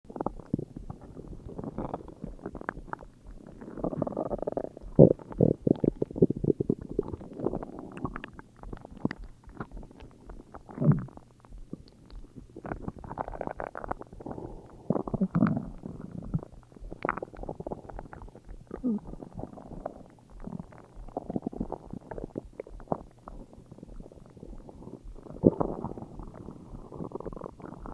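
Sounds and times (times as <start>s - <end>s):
stomach growling and gurgling: 0.1s - 27.9s.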